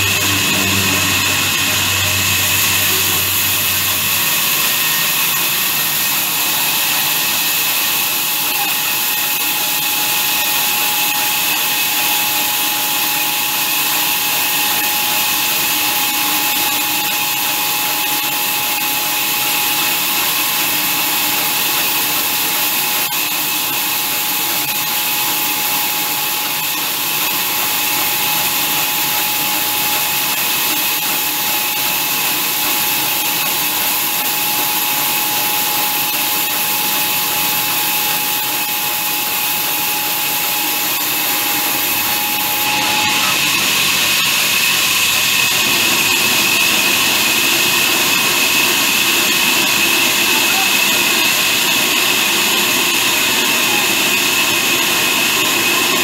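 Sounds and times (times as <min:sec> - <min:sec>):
band saw sawing through log: 0:00.0 - 0:56.0.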